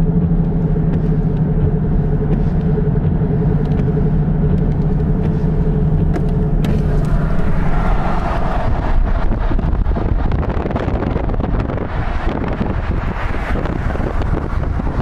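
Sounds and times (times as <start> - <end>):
steady low hum: 0.0 - 15.0
storm wind rumbling and buffeting: 0.0 - 15.0.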